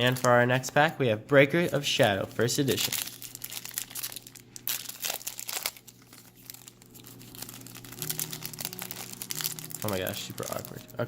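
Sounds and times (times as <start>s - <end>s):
foil wrapper crinkling and tearing: 0.0s - 0.8s, 1.5s - 11.0s.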